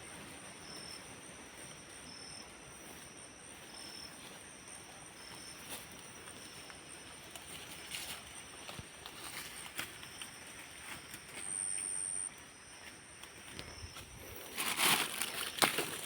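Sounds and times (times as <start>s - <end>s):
insects trilling: 0.0s - 16.0s
short high insect call: 0.3s - 15.6s.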